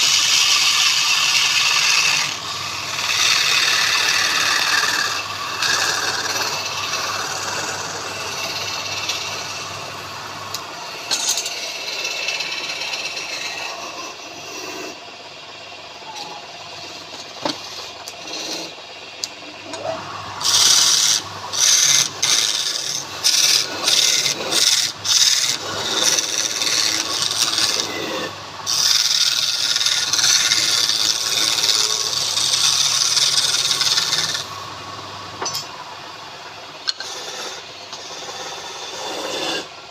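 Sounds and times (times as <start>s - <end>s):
tool rasping on spinning wood: 0.0s - 35.7s, 36.8s - 39.9s
lathe motor hum: 0.0s - 39.9s.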